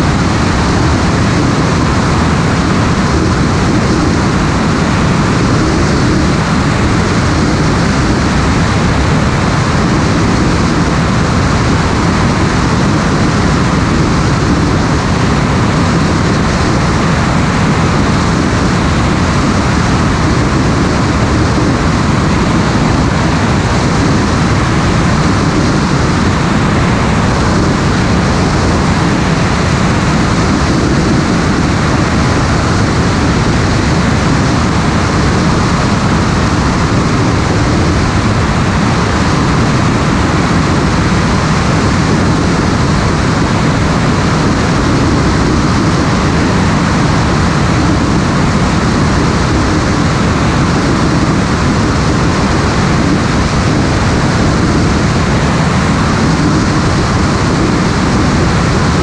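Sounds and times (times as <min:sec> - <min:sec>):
light aircraft engine and airflow: 0:00.0 - 0:59.0.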